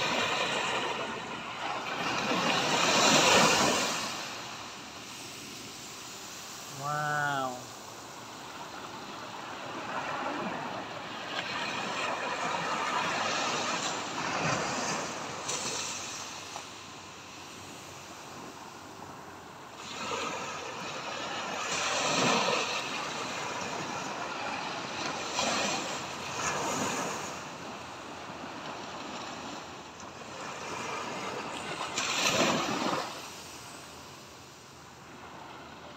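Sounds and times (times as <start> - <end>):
sea waves washing onto beach: 0.0 - 35.9.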